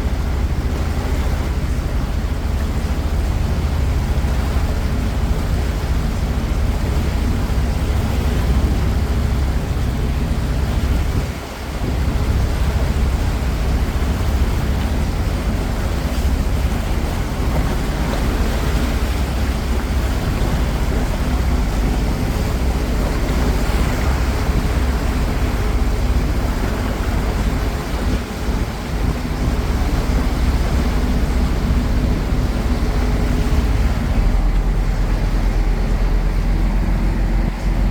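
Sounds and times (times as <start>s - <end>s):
boat engine drone: 0.0s - 37.9s
water wash: 0.0s - 37.9s
wind on microphone: 0.0s - 37.9s.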